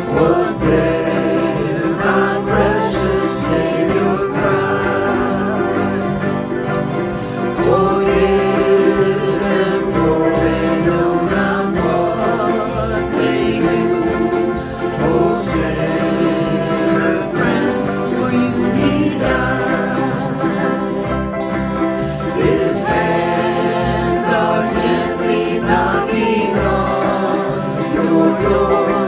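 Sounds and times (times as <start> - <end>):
group singing worship song: 0.0 - 29.0
strummed acoustic guitars: 0.0 - 29.0
ukulele: 0.0 - 29.0.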